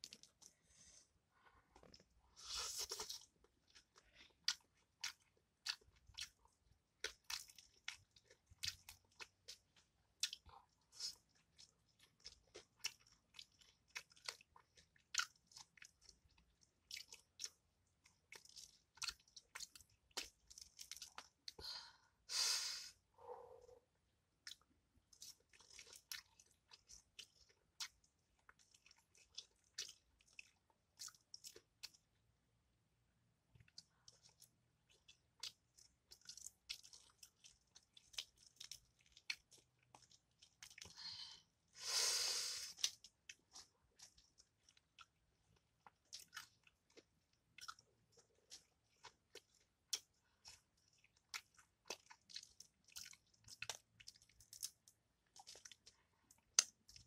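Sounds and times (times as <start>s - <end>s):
crunching and chewing fried fish: 0.0s - 1.0s, 1.6s - 21.6s, 24.4s - 32.1s, 33.6s - 41.4s, 42.7s - 57.0s.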